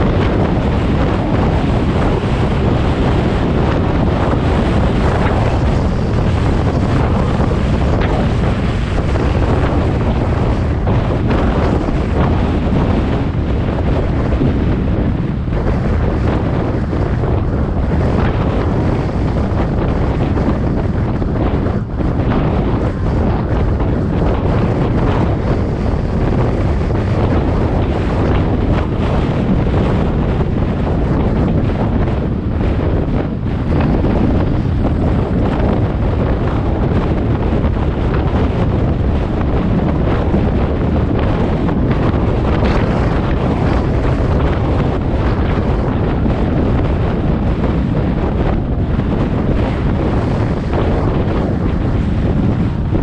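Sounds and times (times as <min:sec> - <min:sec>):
car road noise at speed: 0:00.0 - 0:53.0
wind buffeting microphone: 0:00.0 - 0:53.0.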